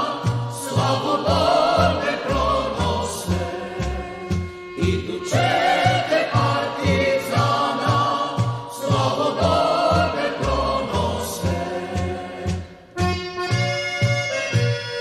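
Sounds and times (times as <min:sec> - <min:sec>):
choir singing a march: 0:00.0 - 0:13.5
marching bass beat: 0:00.0 - 0:13.8
band accompaniment: 0:00.0 - 0:15.0.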